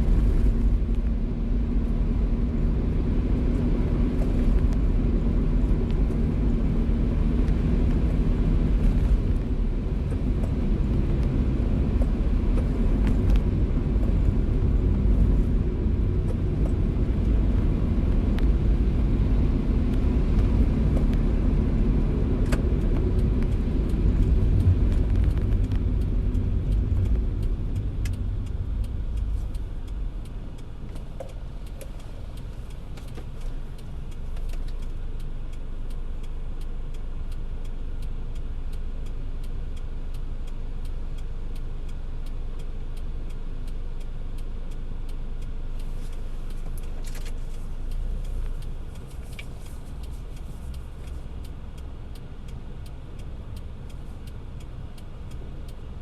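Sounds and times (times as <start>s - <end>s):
road and engine rumble: 0.0s - 56.0s
raindrops ticking on car: 10.1s - 56.0s.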